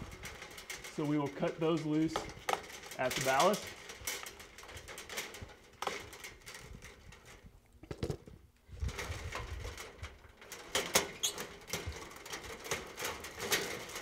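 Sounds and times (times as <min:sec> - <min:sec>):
wires rustling and bumping: 0:00.0 - 0:14.0.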